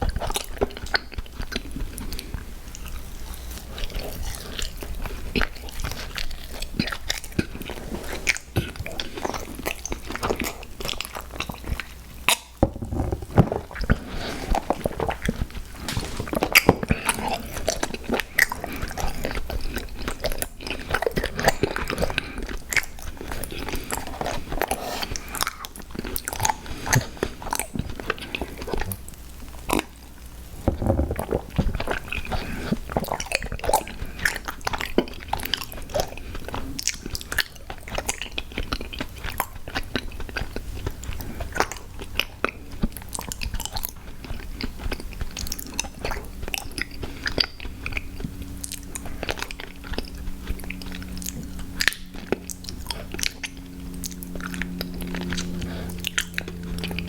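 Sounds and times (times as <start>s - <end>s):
person chewing crunchy snacks: 0.0s - 12.6s, 13.2s - 57.0s.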